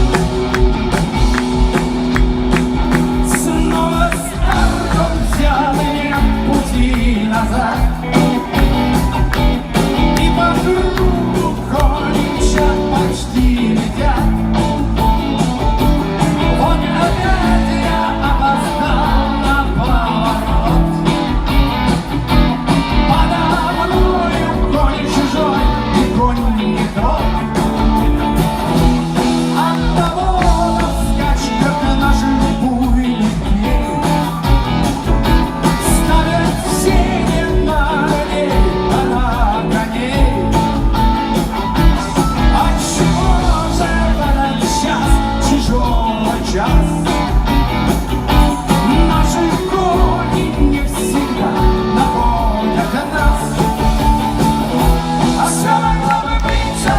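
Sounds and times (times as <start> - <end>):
person singing: 0.0 - 21.5, 22.4 - 28.0, 29.1 - 56.9
guitar: 0.0 - 56.9
rock band playing: 0.0 - 56.9.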